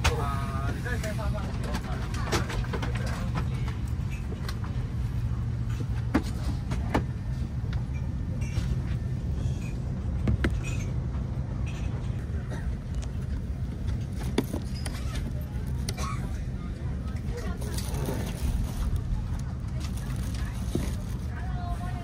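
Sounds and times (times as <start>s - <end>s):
airliner cabin hum: 0.0s - 22.0s.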